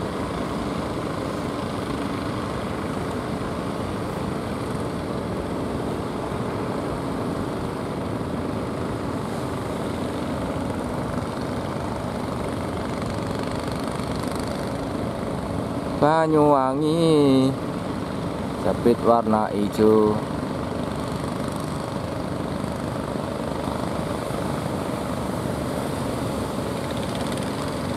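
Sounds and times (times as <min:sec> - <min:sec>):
boat engine drone: 0:00.0 - 0:27.9.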